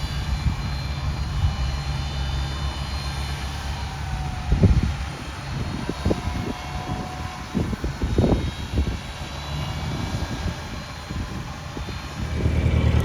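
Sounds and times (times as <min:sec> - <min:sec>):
engine drone: 0:00.0 - 0:13.0
engine running: 0:00.0 - 0:13.0
wind buffeting microphone: 0:00.0 - 0:13.0.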